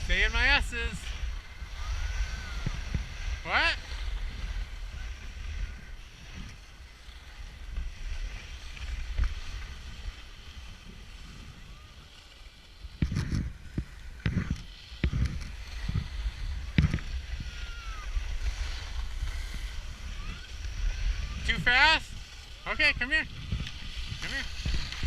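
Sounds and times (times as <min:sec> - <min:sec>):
skis sliding on snow: 0:00.0 - 0:25.0
wind rumbling on microphone: 0:00.0 - 0:25.0.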